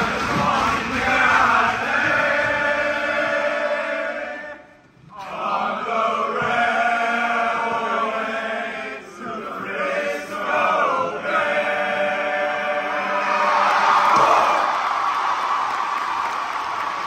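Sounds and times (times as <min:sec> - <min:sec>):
men's choir singing in harmony: 0:00.0 - 0:14.8.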